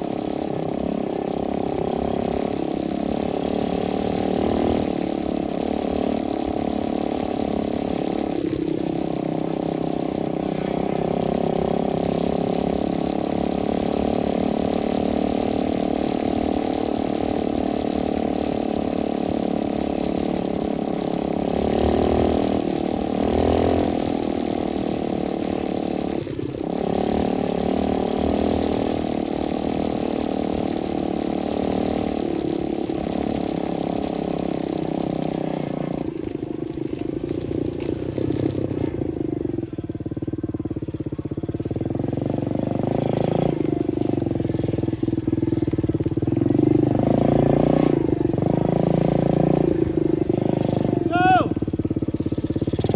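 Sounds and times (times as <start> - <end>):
dirt bike engine running: 0.0 - 52.9.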